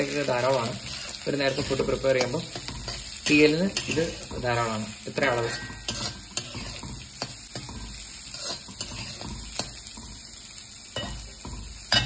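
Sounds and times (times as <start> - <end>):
spatula scraping pan: 0.0 - 10.4
breadfruit sizzling in hot oil: 0.0 - 12.0.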